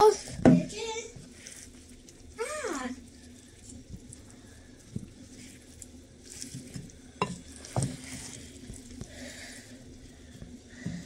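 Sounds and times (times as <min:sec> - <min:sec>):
spatula squelching in oily paste: 0:01.2 - 0:10.4.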